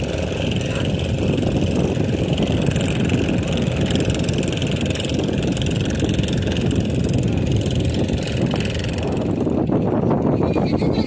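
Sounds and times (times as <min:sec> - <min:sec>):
engine rumble: 0:00.0 - 0:11.0.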